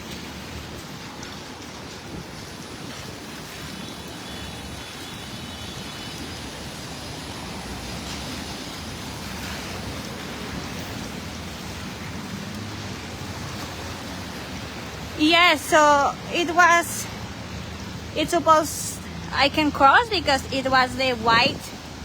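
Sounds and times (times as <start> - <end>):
steady rain: 0.0 - 22.0
traffic on wet streets: 0.0 - 22.0.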